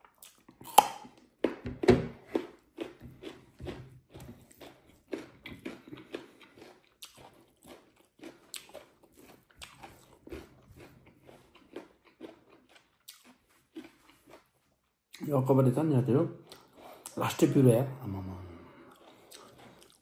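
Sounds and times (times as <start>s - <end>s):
man chewing and biting food: 0.0s - 15.3s, 16.4s - 20.0s.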